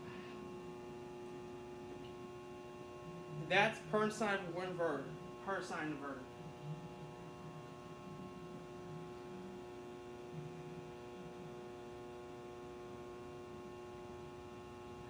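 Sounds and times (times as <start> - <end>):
buzzy electrical hum: 0.0 - 15.0.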